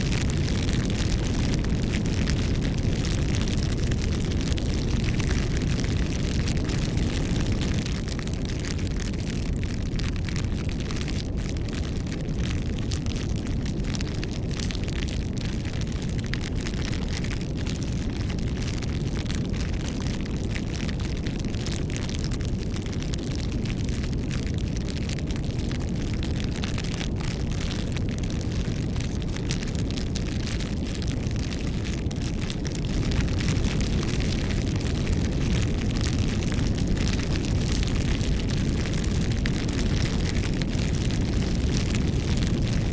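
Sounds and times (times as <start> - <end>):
bonfire flames rumbling: 0.0 - 42.9
fire crackling and popping: 0.0 - 42.9.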